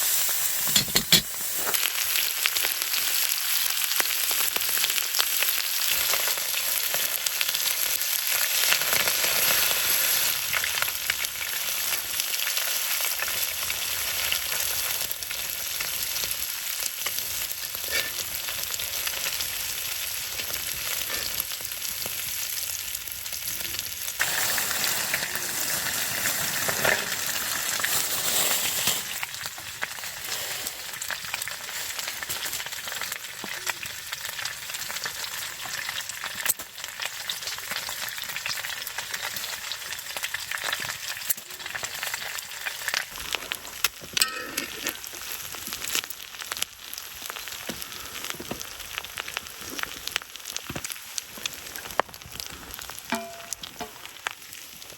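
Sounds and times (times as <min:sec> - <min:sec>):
food sizzling in a pan: 0:00.0 - 0:54.9.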